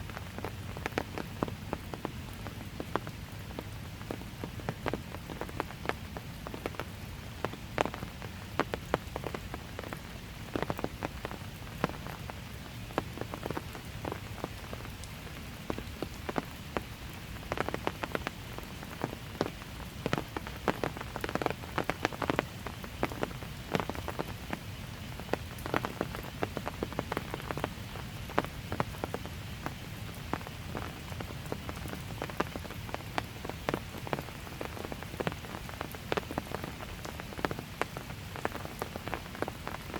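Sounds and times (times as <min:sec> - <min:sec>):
light rain patter: 0:00.0 - 0:39.9
raindrops ticking on surfaces: 0:00.0 - 0:39.9.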